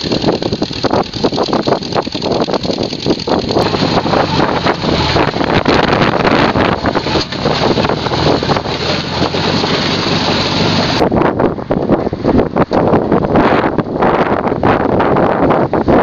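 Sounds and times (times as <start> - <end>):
dune buggy engine running: 0.0 - 16.0
wind buffeting microphone: 0.0 - 16.0.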